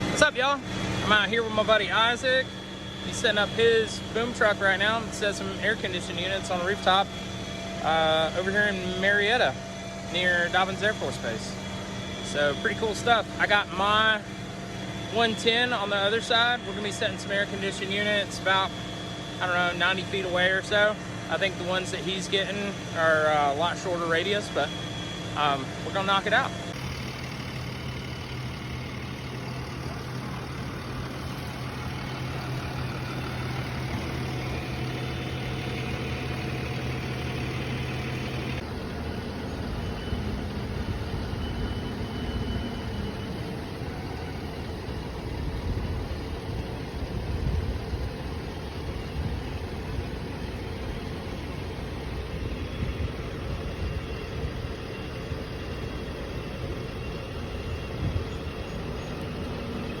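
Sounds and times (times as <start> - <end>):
truck engine idling: 0.0 - 60.0.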